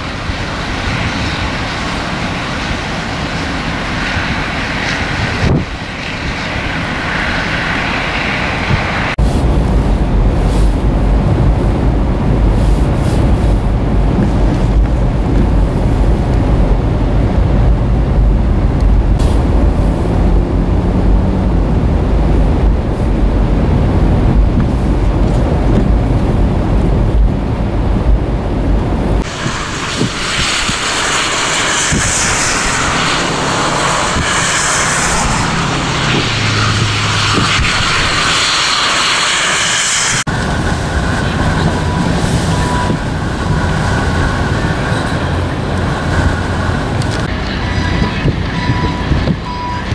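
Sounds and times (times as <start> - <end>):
blizzard wind hiss: 0.0 - 49.9
vehicle engine and tyres on slush: 0.0 - 49.9.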